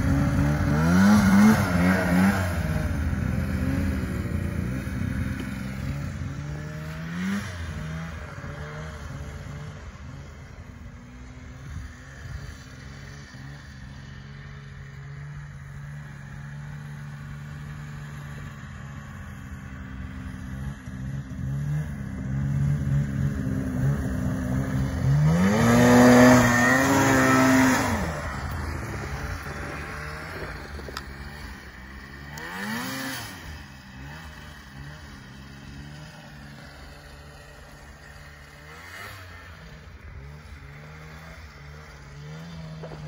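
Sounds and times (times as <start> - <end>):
snowmobile engine revving: 0.0 - 43.0.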